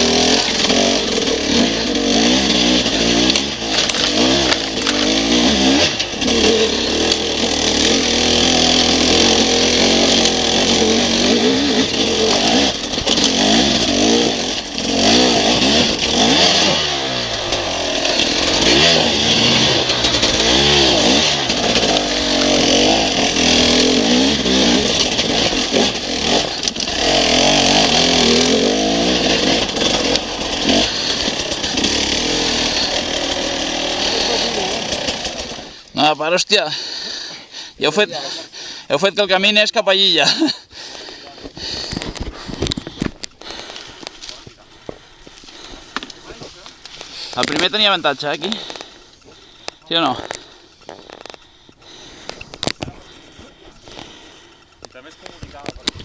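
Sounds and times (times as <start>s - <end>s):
bike knocking and rattling over stones: 0.0s - 36.0s, 40.2s - 56.0s
dirt bike engine revving: 0.0s - 56.0s.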